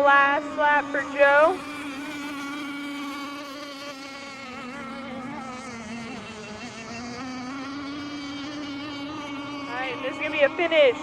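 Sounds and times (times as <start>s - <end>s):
small boat engines buzzing: 0.0s - 11.0s.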